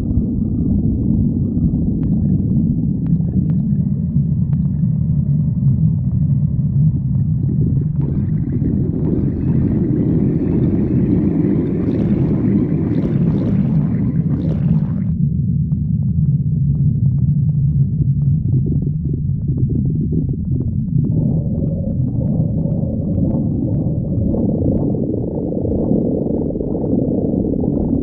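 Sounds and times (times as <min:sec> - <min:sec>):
stomach growling: 0:00.0 - 0:15.2, 0:16.6 - 0:28.0.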